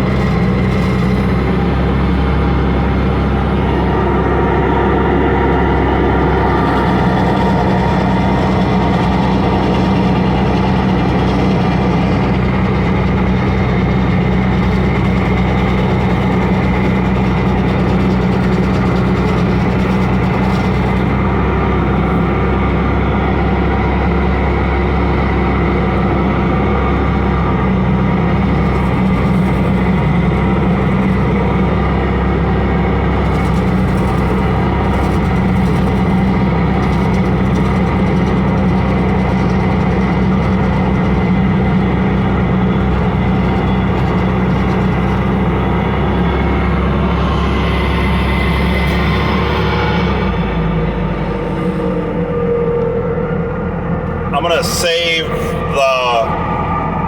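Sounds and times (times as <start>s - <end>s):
stump grinder grinding wood: 0.0s - 52.6s
skid steer engine running: 0.0s - 57.0s.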